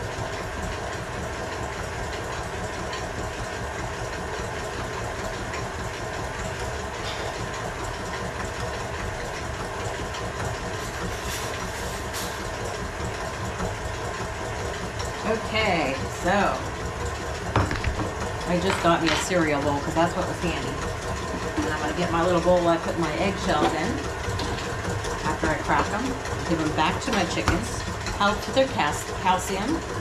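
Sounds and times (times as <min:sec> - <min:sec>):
stand mixer running: 0:00.0 - 0:30.0.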